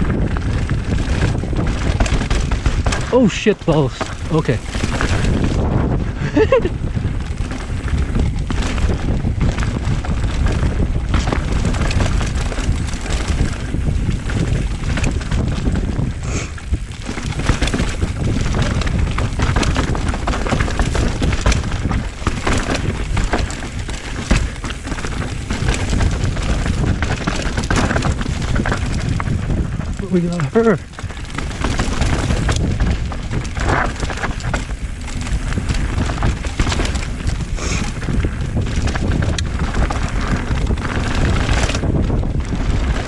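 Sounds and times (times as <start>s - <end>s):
bike rattling and knocking: 0.0s - 43.0s
bike tyres rolling on dirt: 0.0s - 43.0s
wind rushing over microphone: 0.0s - 43.0s.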